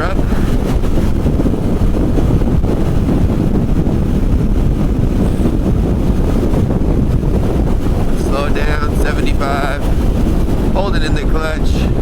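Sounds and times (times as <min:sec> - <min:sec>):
motorcycle and road rumble: 0:00.0 - 0:12.0
wind buffeting microphone: 0:00.0 - 0:12.0.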